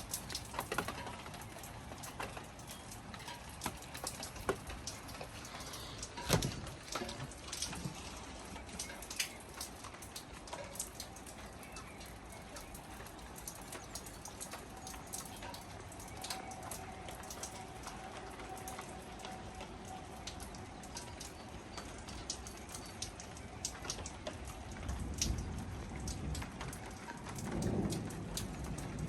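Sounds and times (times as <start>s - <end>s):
rain pattering and dripping: 0.0s - 29.0s.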